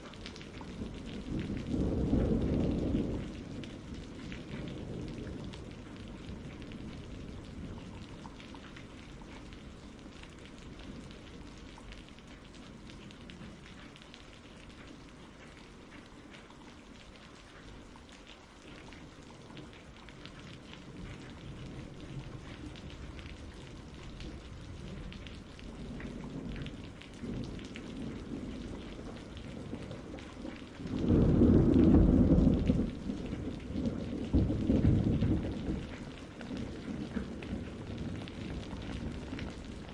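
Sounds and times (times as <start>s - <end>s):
thunder rumbling: 0.0s - 13.9s, 19.7s - 39.9s
steady rain: 0.0s - 39.9s.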